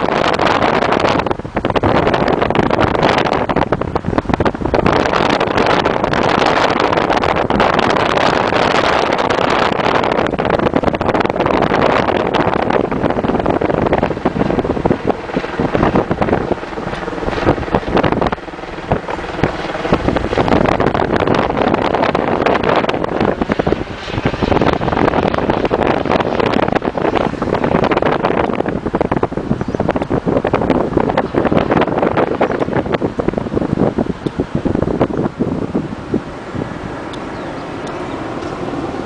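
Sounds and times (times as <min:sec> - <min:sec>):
car road and engine noise: 0:00.0 - 0:39.0
wind buffeting microphone: 0:00.0 - 0:39.0.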